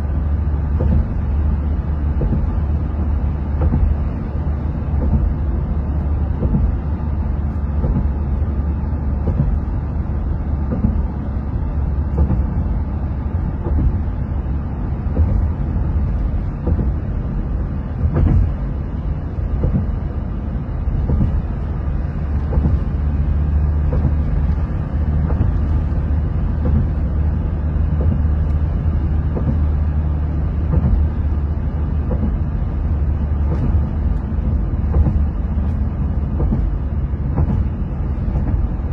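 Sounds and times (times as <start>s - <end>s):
vehicle engine and road noise: 0.0s - 38.9s
small bumps and knocks: 0.6s - 1.4s, 2.0s - 11.3s, 12.0s - 14.2s, 15.0s - 38.9s.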